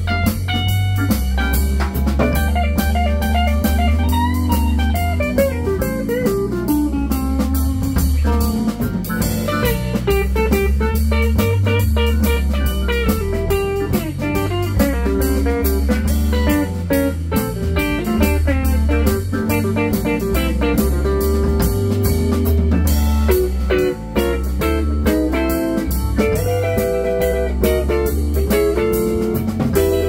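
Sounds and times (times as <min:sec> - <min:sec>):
drum beat: 0:00.0 - 0:30.0
electric guitar melody: 0:00.0 - 0:30.0
keyboard: 0:00.0 - 0:30.0
low bass line: 0:00.0 - 0:30.0.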